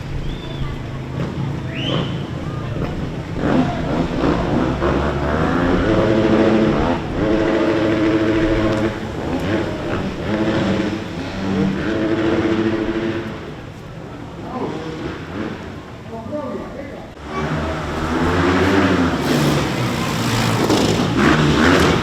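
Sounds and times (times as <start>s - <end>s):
motorcycle engine revving: 0.0s - 13.8s, 14.6s - 16.1s, 17.2s - 22.0s.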